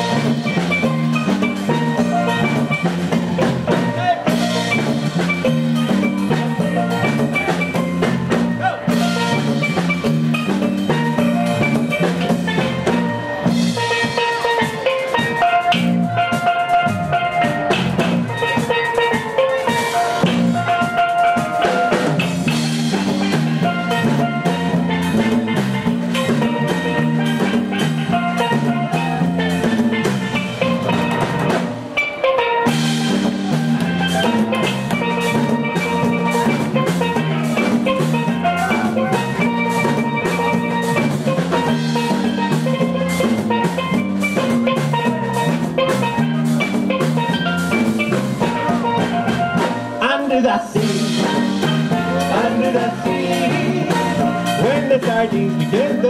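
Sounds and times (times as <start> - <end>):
drums groove: 0.0 - 56.0
steel pan melody: 0.0 - 56.0.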